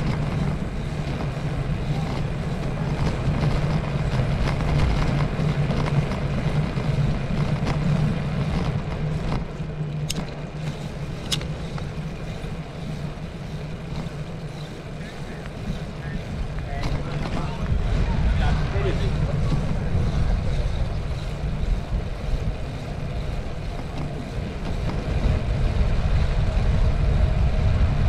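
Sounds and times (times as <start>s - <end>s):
bicycle riding rumble: 0.0s - 28.0s.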